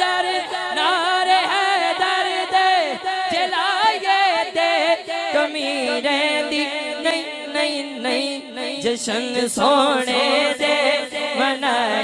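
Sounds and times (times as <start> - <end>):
devotional chanting through pa: 0.0 - 12.0.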